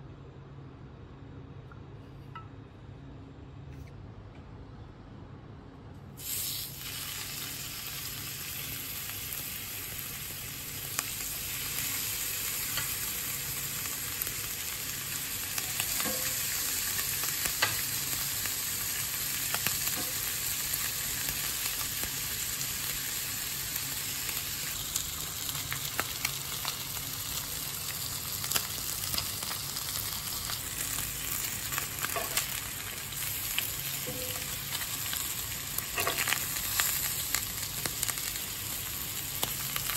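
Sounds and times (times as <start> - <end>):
meat sizzling in hot oil: 6.2 - 39.9.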